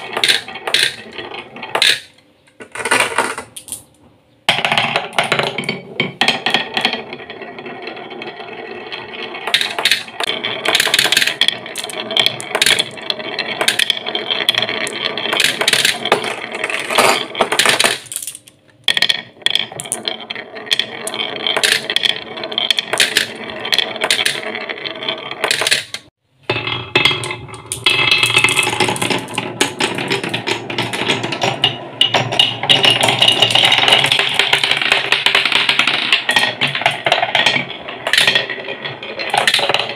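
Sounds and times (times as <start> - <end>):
marbles clicking and clacking: 0.0 - 3.9, 4.5 - 39.9
marbles rolling on wooden tracks: 0.0 - 3.9, 4.5 - 39.9.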